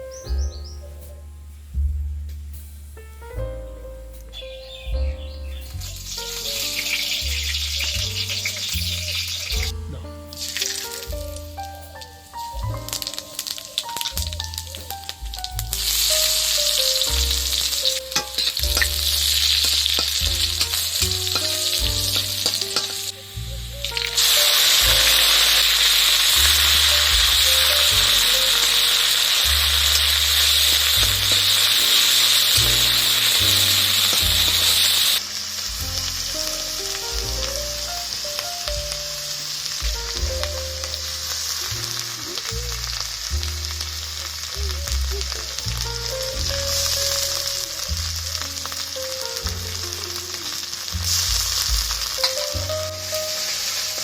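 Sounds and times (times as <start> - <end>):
soft background music: 0.0 - 54.0
food sizzling in hot oil: 5.6 - 9.7, 10.3 - 54.0.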